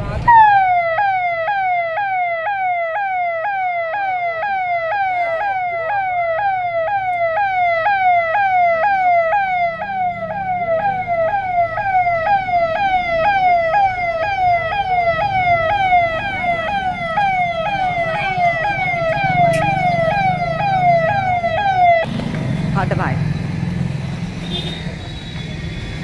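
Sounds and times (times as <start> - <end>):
electronic siren falling sweeps: 0.3 - 22.1.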